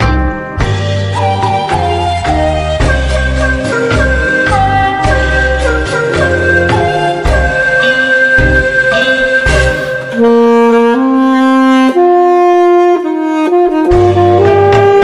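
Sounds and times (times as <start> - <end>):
bass and drums backing: 0.0 - 11.2, 13.7 - 15.0
tenor saxophone slow melody: 0.2 - 15.0.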